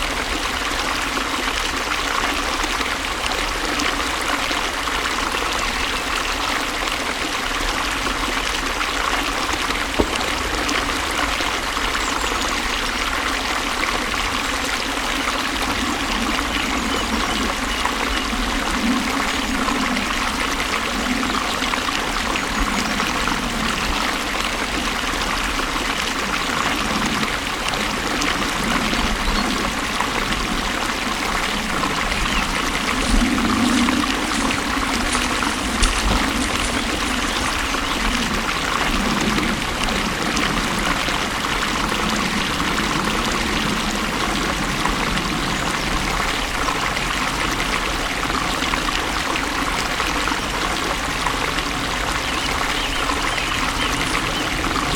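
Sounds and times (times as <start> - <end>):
low water gurgling: 0.0 - 54.9
water flowing and trickling: 0.0 - 54.9.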